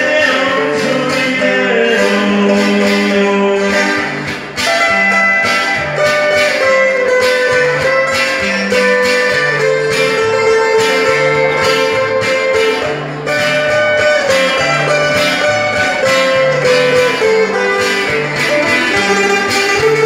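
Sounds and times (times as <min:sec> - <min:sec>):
acoustic guitars playing: 0:00.0 - 0:20.0.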